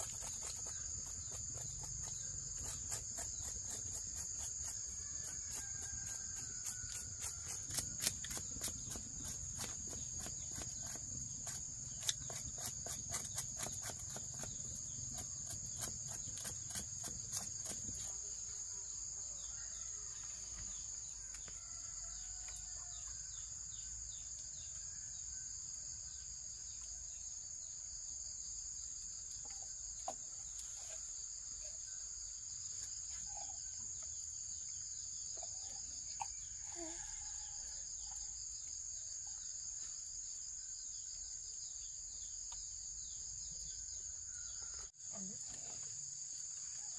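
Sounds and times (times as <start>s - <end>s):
crickets shrilling: 0.0s - 46.9s.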